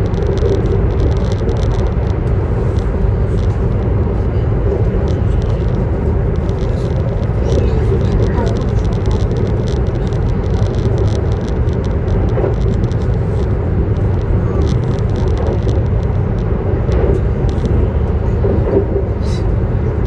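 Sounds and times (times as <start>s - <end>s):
faint ticks and rattles: 0.0s - 20.0s
train running rumble: 0.0s - 20.0s.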